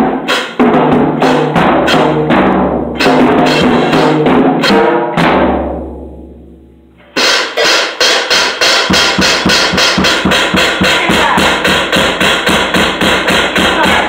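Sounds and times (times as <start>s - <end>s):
drum kit playing fast rhythm: 0.0s - 6.4s, 7.1s - 14.0s.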